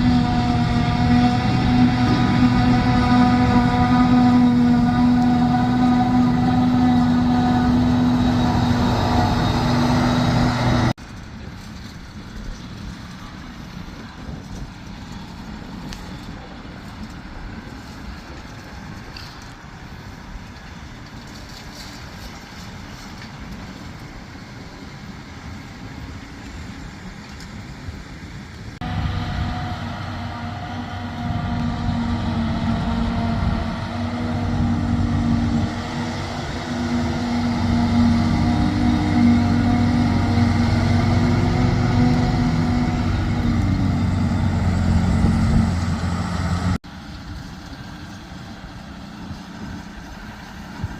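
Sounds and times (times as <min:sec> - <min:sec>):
farm machinery diesel engines: 0:00.0 - 0:50.9.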